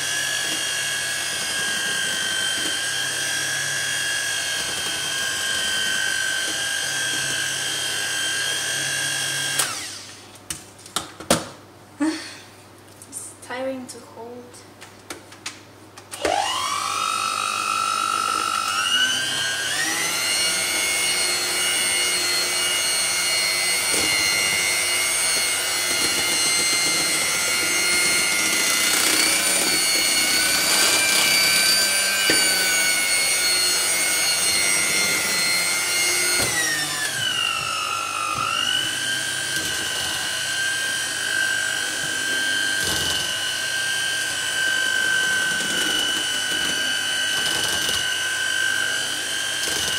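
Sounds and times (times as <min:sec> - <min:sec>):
electric hand mixer whining: 0:00.0 - 0:10.3, 0:16.2 - 0:49.9.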